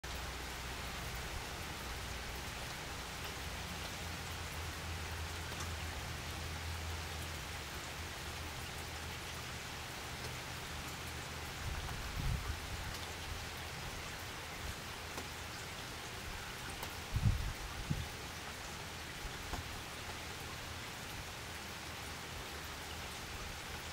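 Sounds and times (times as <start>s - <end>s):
rain on a wooden deck: 0.0s - 23.9s.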